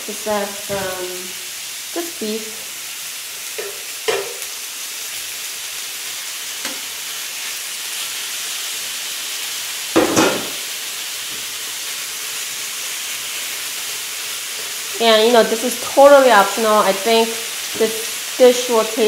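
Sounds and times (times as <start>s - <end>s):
meat and vegetables sizzling in pan: 0.0s - 19.0s.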